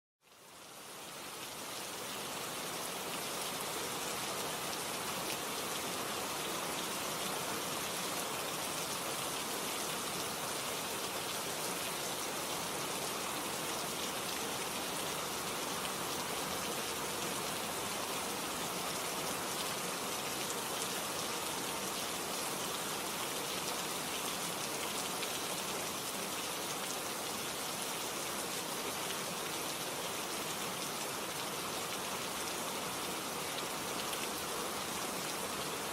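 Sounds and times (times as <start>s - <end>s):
steady rain pattering: 0.2s - 35.9s.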